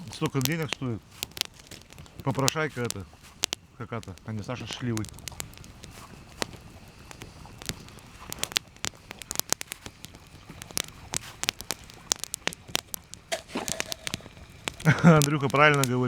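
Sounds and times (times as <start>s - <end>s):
campfire crackling and popping: 0.0s - 16.0s
soft steady hiss: 0.0s - 16.0s.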